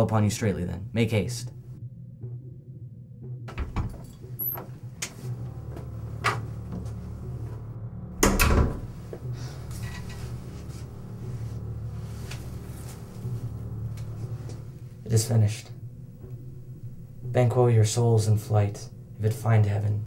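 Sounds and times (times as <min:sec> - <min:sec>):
low room hum: 0:03.4 - 0:20.0.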